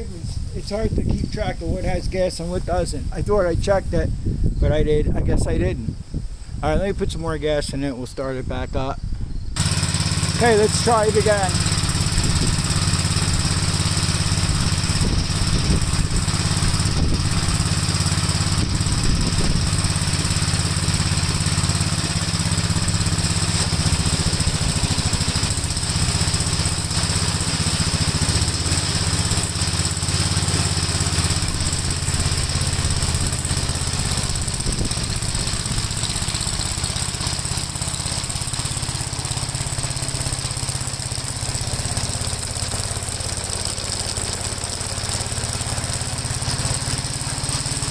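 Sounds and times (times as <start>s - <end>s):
tractor engine running under load: 9.6s - 47.9s.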